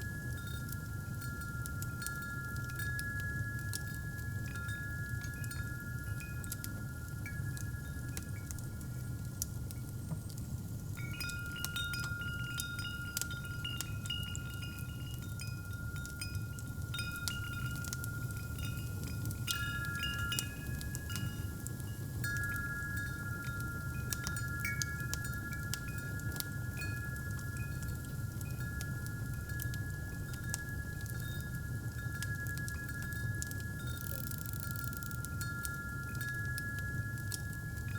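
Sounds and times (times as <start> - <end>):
fireplace fire crackling: 0.0 - 37.9
metal wind chimes ringing: 0.0 - 37.9.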